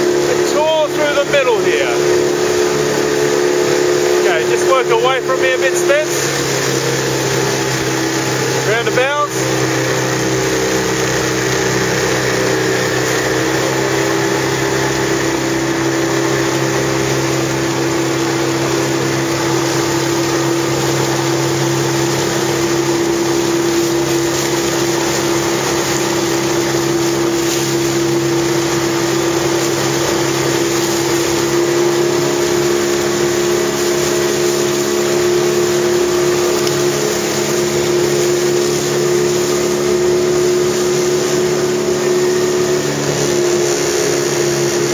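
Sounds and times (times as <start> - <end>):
outboard engine running: 0.0 - 44.9.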